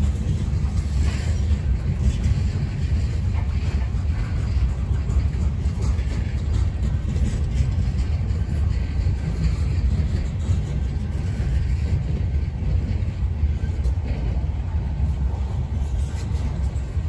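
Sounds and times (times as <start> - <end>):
steel train wheels rumbling on rails: 0.0 - 17.0.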